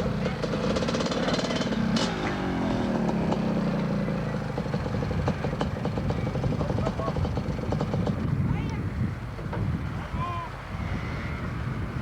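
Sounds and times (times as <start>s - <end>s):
motocross motorcycle engines: 0.0s - 12.0s.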